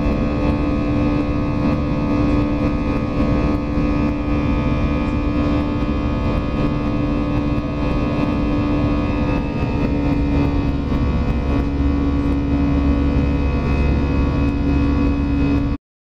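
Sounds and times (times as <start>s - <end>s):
jet engine cabin drone: 0.0s - 15.8s.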